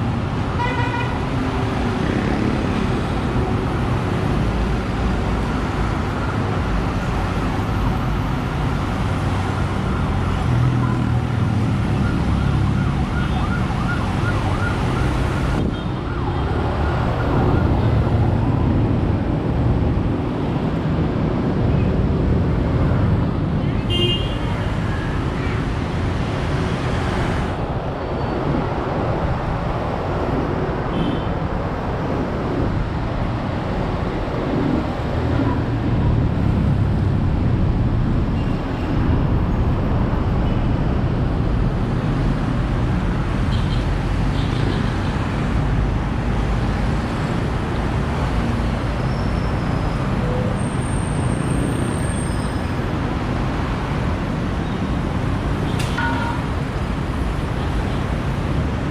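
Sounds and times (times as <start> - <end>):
road traffic rumble: 0.0 - 58.9.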